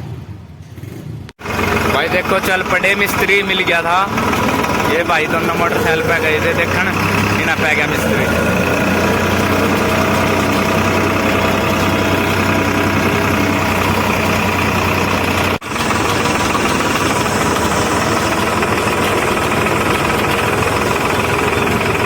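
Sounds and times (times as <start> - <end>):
tractor diesel engine running: 1.4 - 22.0.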